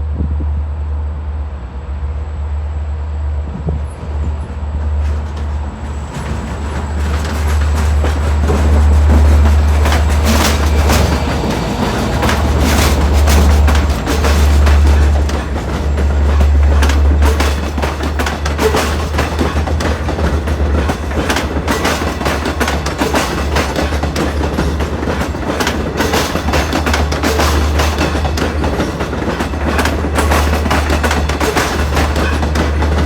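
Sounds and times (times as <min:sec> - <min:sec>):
train low rumble: 0:00.0 - 0:33.0
train wheels clattering: 0:03.5 - 0:33.0.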